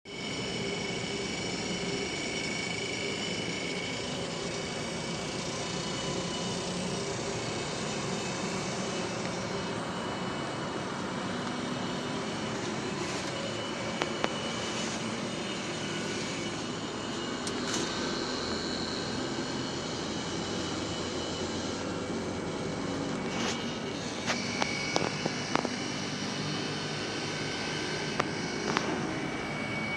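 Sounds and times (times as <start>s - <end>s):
faint whine tones: 0.1s - 29.9s
machinery drone: 0.1s - 29.9s.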